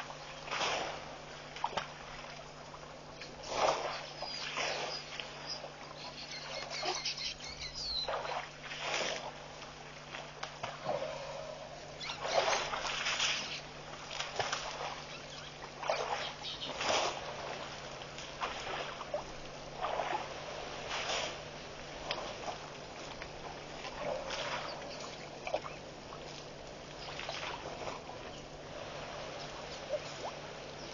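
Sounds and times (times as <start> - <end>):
water splashing and sloshing: 0.0 - 30.9.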